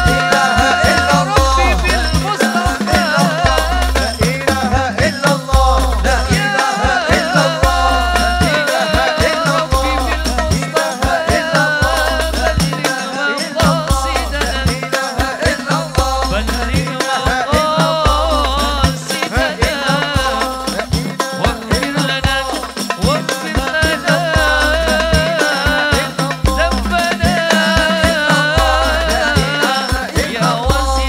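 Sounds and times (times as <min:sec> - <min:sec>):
frame drums and darbuka beating: 0:00.0 - 0:31.0
men singing devotional melody: 0:00.0 - 0:31.0.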